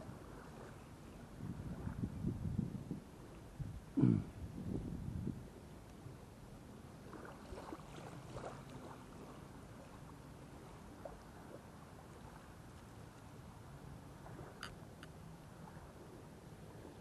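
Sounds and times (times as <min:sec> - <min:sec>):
water lapping and splashing: 0:00.0 - 0:03.6, 0:05.5 - 0:17.0.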